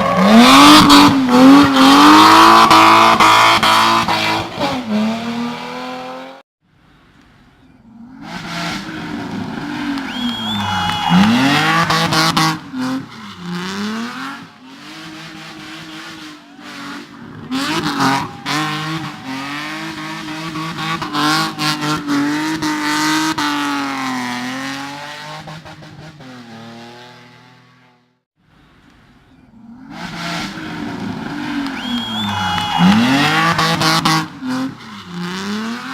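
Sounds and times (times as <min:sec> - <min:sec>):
race car engine at full throttle: 0:00.0 - 0:06.4, 0:07.2 - 0:35.9.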